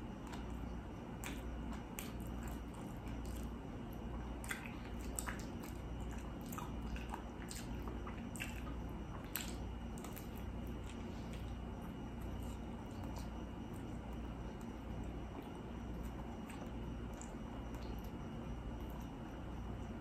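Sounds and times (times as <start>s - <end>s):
person chewing wetly: 0.0s - 20.0s
steady low hum: 0.0s - 20.0s.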